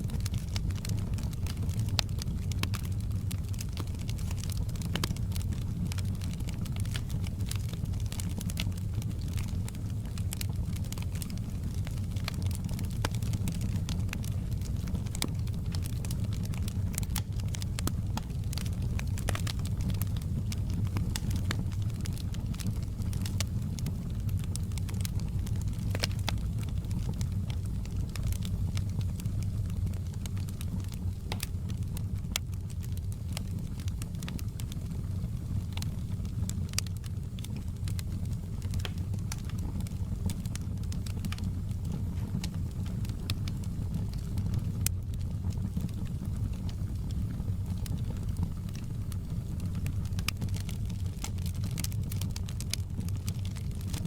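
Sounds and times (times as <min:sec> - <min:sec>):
sharp pops of fire: 0:00.0 - 0:35.0, 0:35.6 - 0:54.0
low rumble of flames: 0:00.0 - 0:54.0
wood fire crackling: 0:00.0 - 0:54.0.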